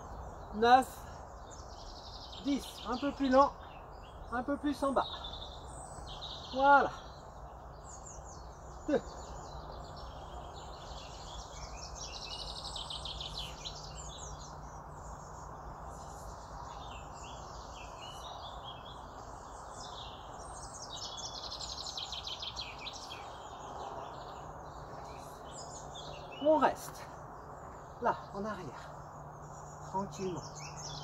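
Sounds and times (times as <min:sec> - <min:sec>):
songbirds chirping and trilling: 0:00.0 - 0:31.0.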